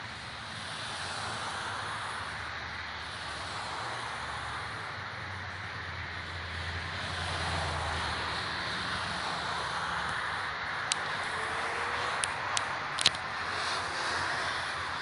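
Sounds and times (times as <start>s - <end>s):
car passing: 0.0s - 15.0s
road traffic noise: 0.0s - 15.0s.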